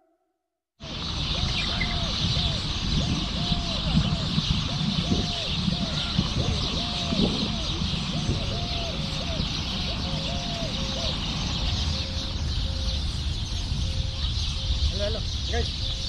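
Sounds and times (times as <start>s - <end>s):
birds calling: 0.8s - 16.0s.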